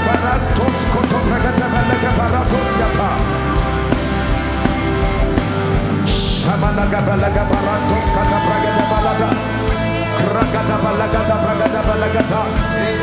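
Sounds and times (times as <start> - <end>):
steady bass: 0.0 - 13.0
sustained keyboard chords: 0.0 - 13.0.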